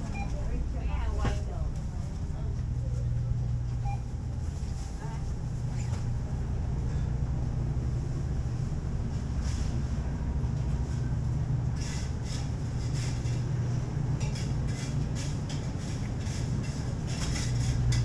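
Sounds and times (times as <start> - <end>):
refrigerator hum: 0.0 - 18.0.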